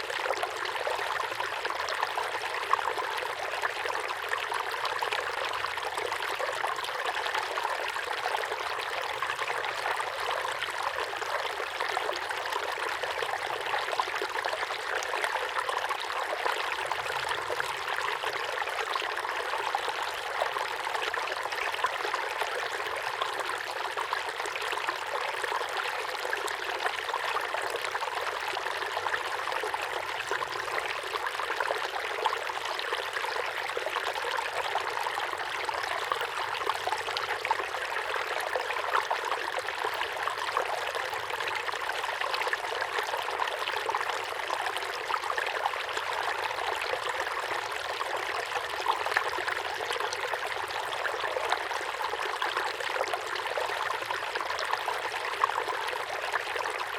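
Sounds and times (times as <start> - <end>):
waterfall pouring into pond: 0.0 - 56.9.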